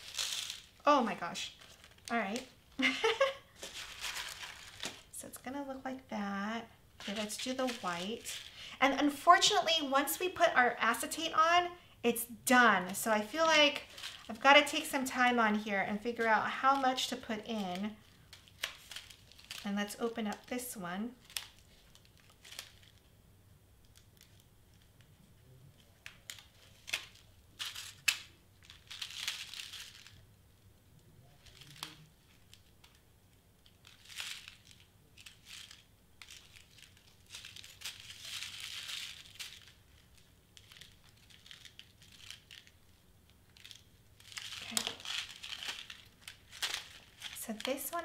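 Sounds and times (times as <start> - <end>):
beads rattling and crinkling: 0.0 - 23.2, 23.8 - 48.0.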